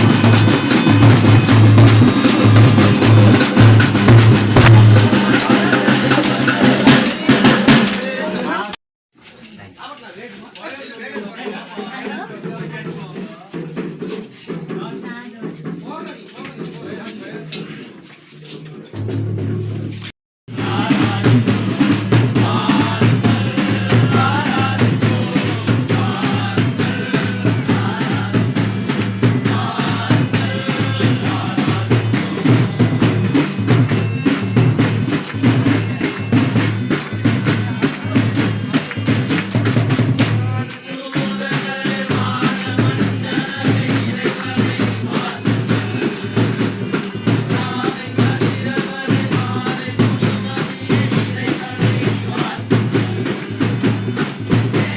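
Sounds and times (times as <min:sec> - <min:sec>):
drums beating: 0:00.0 - 0:08.8, 0:11.1 - 0:54.9
group singing a christmas song: 0:00.0 - 0:08.8, 0:19.7 - 0:54.9
jingling percussion: 0:00.0 - 0:54.9.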